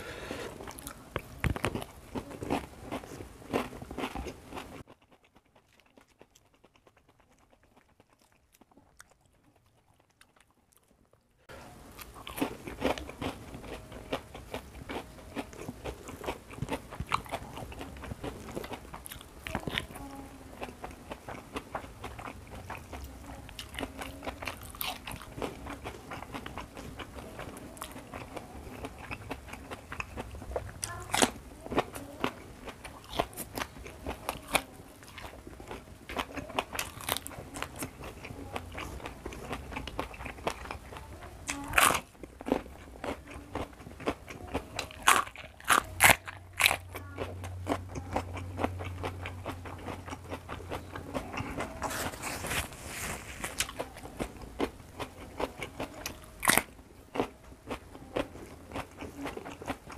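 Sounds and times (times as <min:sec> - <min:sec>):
wet chewing: 0:00.0 - 0:11.1, 0:11.9 - 0:59.9
faint low hum: 0:00.0 - 0:59.9.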